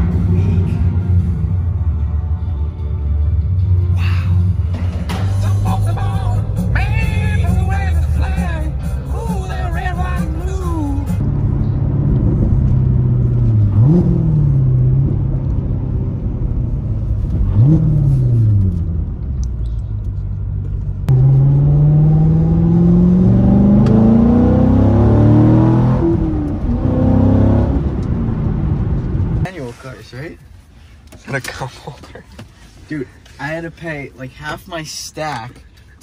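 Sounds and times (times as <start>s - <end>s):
car engine revving: 0.0s - 29.5s.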